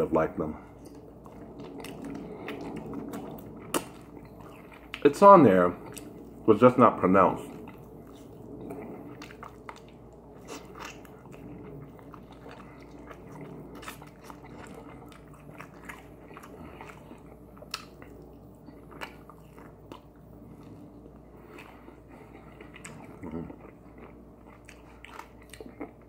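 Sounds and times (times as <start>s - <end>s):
person chewing crunchy food: 0.4s - 26.0s.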